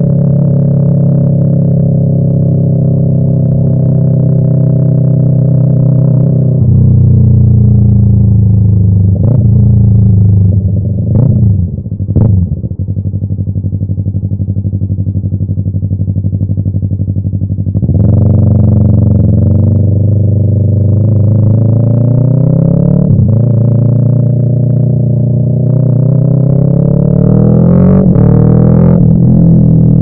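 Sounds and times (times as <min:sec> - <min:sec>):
motorcycle engine revving and idling: 0:00.0 - 0:30.0.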